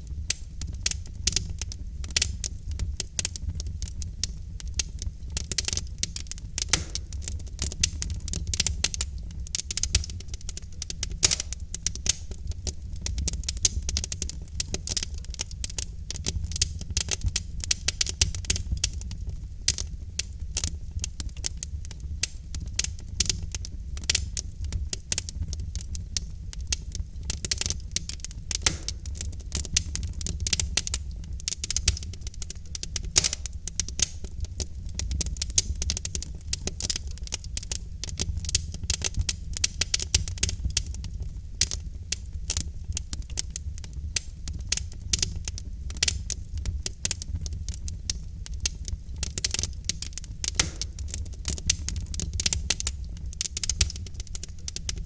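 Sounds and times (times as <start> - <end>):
low rumble of flames: 0.0 - 55.0
logs crackling and popping: 0.1 - 55.0.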